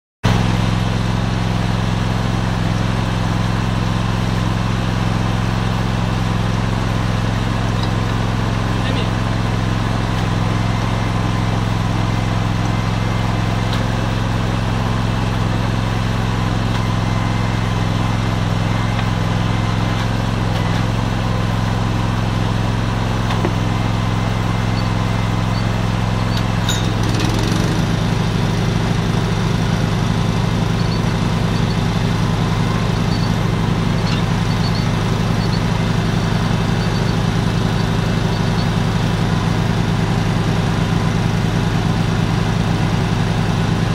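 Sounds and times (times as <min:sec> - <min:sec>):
drilling rig engine hum: 0:00.3 - 0:43.9.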